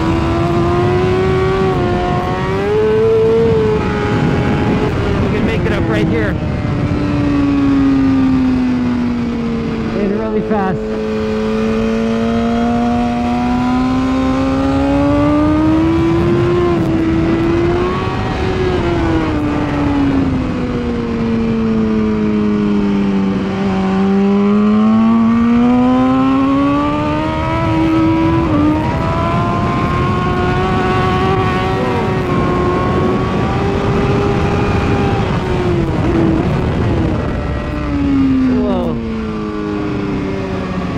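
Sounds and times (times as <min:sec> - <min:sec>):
motorcycle engine revving: 0:00.0 - 0:40.9
wind rush: 0:00.0 - 0:40.9.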